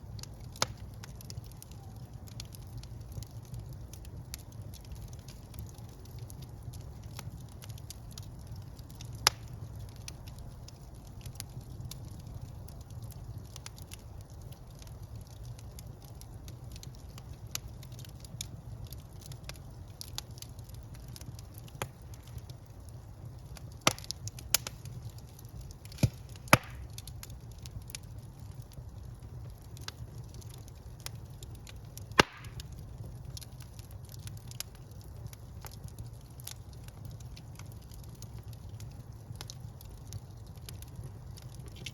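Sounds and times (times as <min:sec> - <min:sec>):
wood fire crackling: 0:00.0 - 0:41.9
loud sharp pops from fire: 0:00.1 - 0:12.3, 0:16.0 - 0:22.7, 0:23.3 - 0:38.2.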